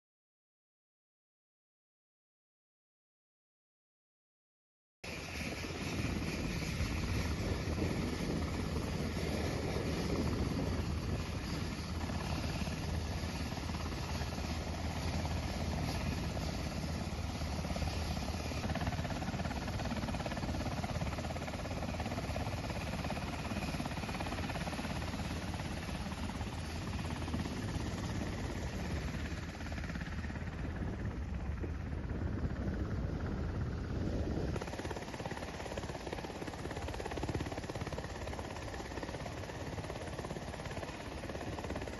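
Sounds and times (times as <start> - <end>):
helicopter rotor and turbine running: 5.0 - 41.9.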